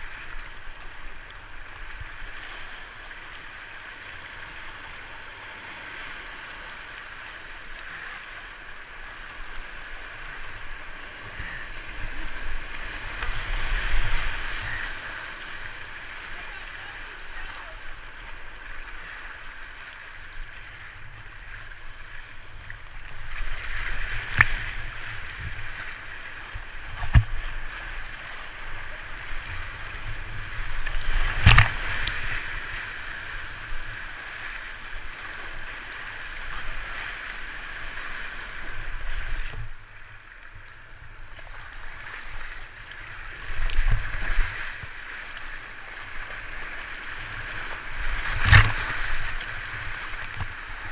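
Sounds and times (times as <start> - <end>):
waves splashing over bow: 0.0 - 50.9.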